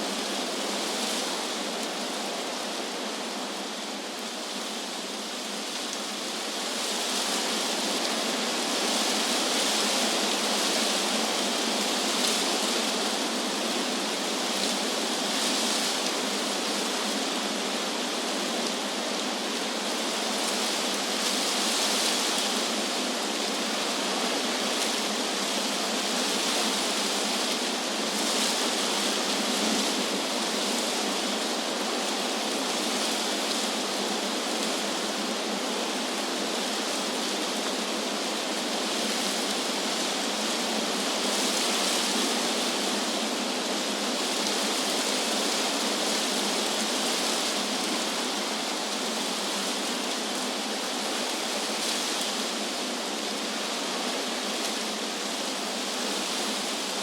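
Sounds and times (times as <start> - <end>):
wind through tree leaves: 0.0 - 57.0.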